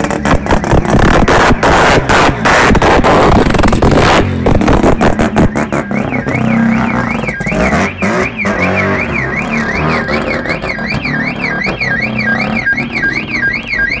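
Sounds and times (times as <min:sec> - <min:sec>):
car alarm warbling: 0:00.2 - 0:14.0.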